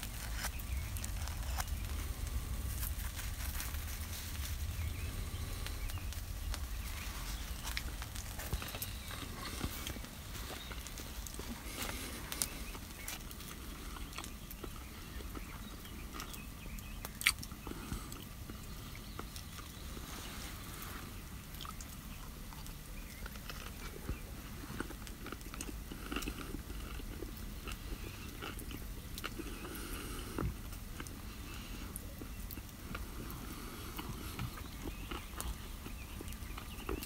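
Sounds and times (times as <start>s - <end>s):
rain on a canvas tent: 0.0s - 37.0s
wood fire crackling and popping: 0.0s - 37.0s.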